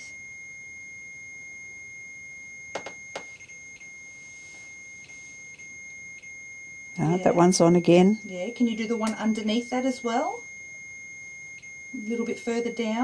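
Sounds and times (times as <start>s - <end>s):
high-pitched electronic alarm tone: 0.0s - 13.0s.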